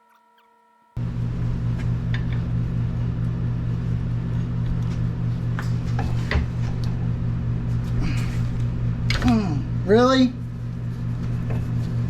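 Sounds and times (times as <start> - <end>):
machine hum: 1.0 - 12.0.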